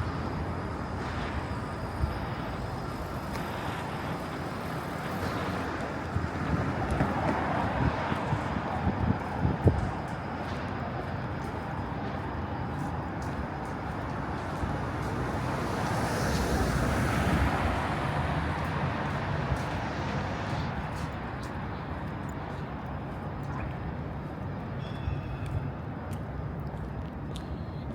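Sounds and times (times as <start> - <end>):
city traffic noise: 0.0 - 27.9.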